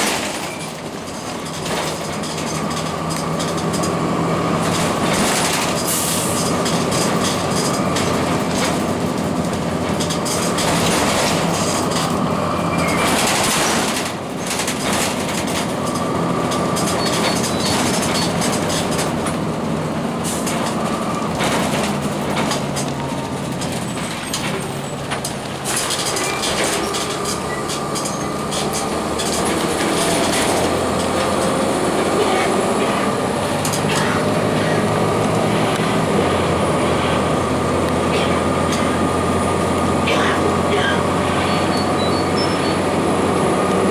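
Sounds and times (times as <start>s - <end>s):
bus body rattles: 0.0s - 43.9s
bus diesel engine running: 0.0s - 43.9s
road noise: 0.0s - 43.9s.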